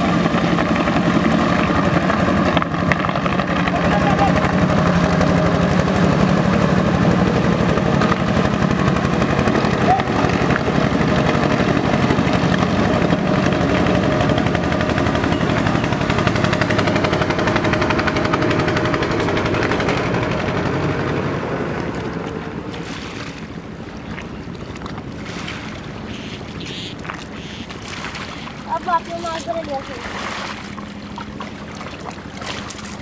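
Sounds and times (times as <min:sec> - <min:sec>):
boat engine puttering: 0:00.0 - 0:33.0.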